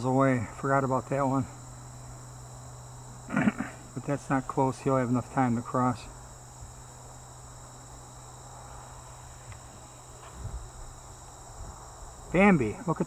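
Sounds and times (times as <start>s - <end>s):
faint low hum: 0.0s - 13.0s
insects trilling: 0.0s - 13.0s.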